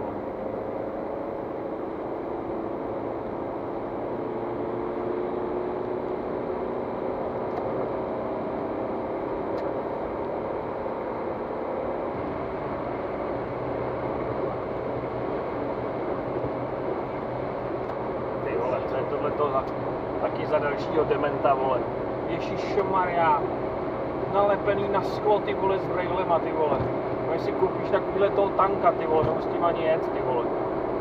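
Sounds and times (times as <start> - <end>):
car engine drone: 0.0 - 31.0.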